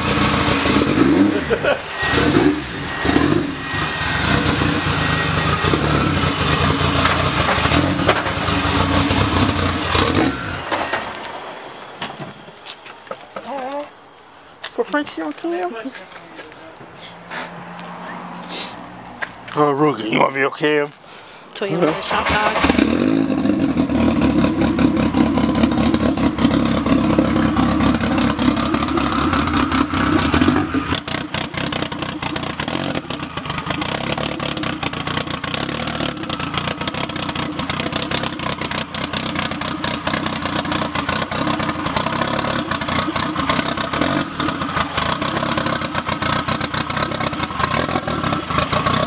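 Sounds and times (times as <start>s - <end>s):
car engine running with crackle: 0.0s - 14.1s, 22.8s - 49.0s.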